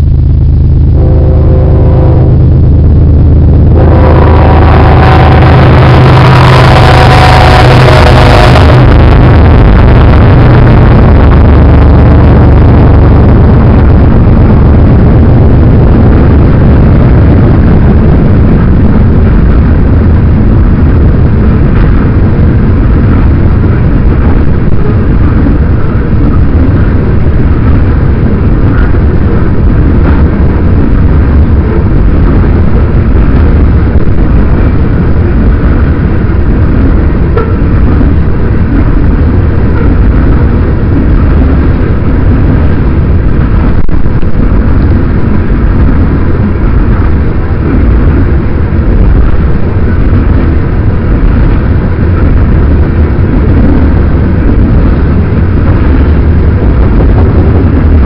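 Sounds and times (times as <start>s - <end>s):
freight train rolling past: 0.0s - 58.0s
wind buffeting microphone: 0.0s - 58.0s.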